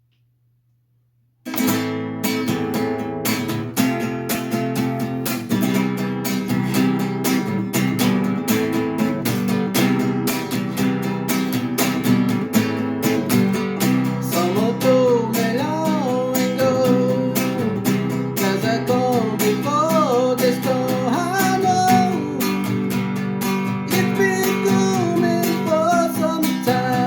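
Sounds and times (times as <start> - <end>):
acoustic guitar strumming: 1.5 - 27.0.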